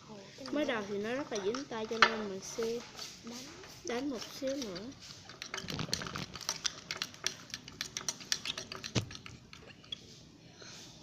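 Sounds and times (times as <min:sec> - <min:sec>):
stirrer beating sticky slime: 0:00.4 - 0:10.0.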